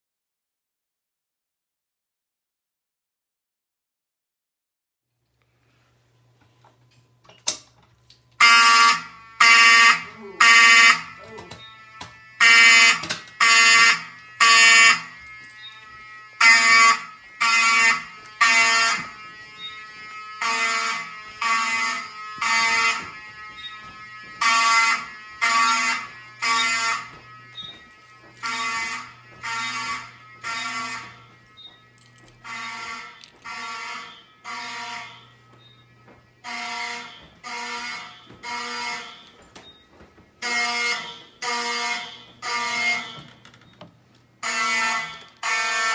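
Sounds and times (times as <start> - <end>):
fire alarm horn blasts: 7.2 - 45.9.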